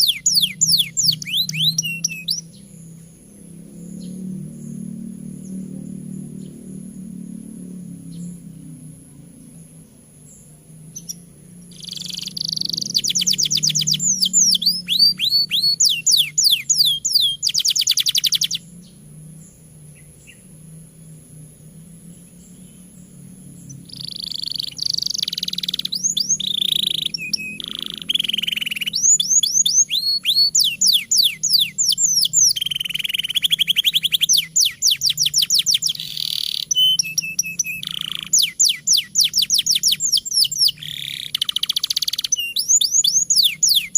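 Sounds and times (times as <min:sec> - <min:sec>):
canary singing: 0:00.0 - 0:20.7, 0:21.8 - 0:43.9
low steady hum: 0:00.0 - 0:43.9.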